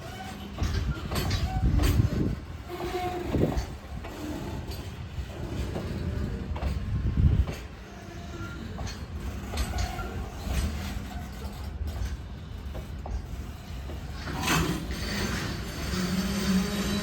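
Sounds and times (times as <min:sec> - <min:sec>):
freight train rumbling past: 0:00.0 - 0:17.0
train cars clanking: 0:00.0 - 0:17.0.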